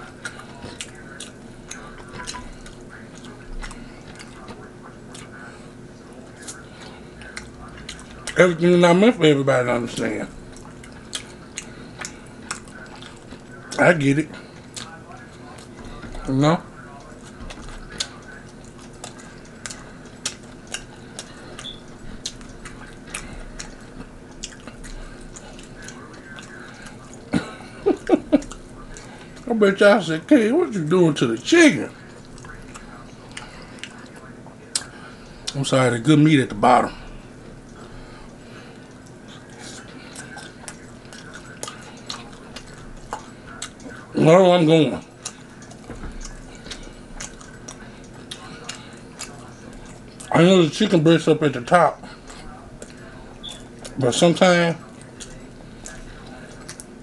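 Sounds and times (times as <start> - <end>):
wet chewing and lip smacking: 0.0 - 29.5, 31.8 - 35.7, 36.6 - 44.2, 44.8 - 50.9, 51.5 - 54.0, 54.8 - 57.0.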